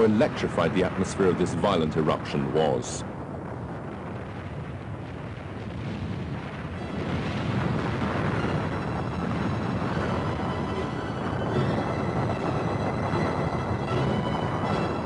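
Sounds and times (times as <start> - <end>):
volcanic eruption rumble: 0.0 - 15.0.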